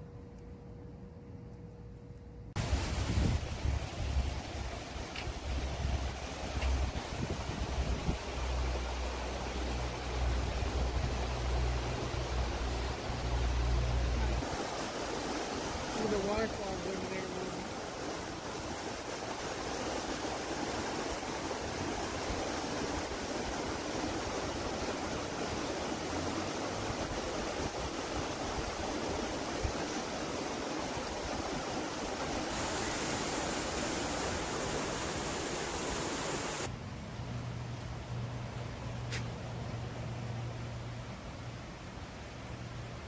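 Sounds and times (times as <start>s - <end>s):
creek water rushing: 2.6s - 43.0s.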